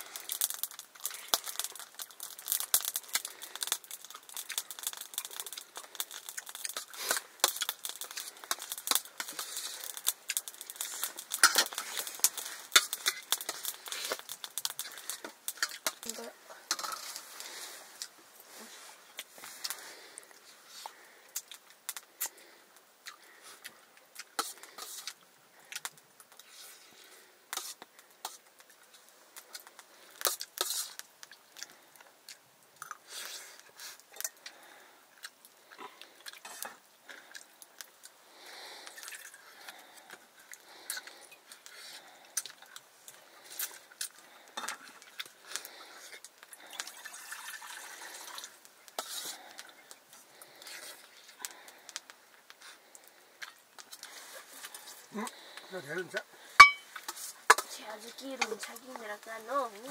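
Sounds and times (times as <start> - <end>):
people chewing: 0.0 - 58.7.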